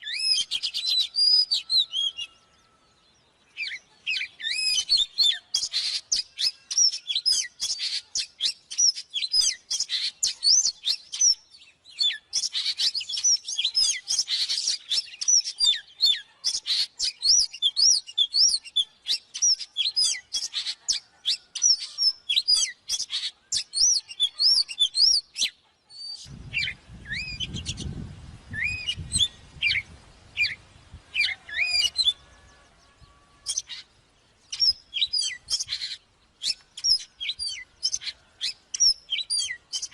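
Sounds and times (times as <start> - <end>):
bird singing whistles and chirps: 0.0 - 33.9, 34.5 - 39.9.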